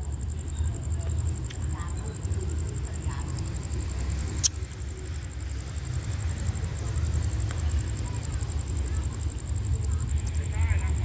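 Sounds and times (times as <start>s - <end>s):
distant locomotive rumble: 0.0s - 11.0s.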